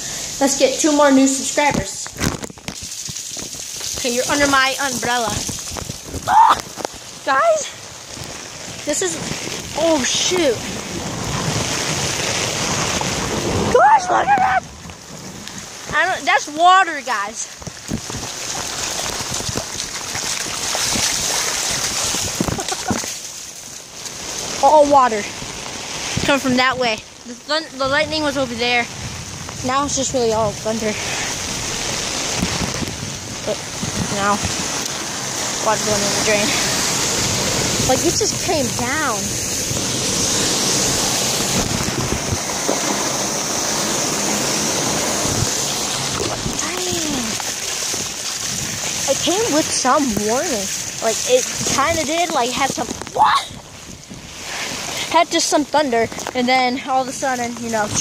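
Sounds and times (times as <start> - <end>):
close raindrop hits: 0.0 - 58.0
heavy rain pouring: 0.0 - 58.0
running water: 0.0 - 58.0.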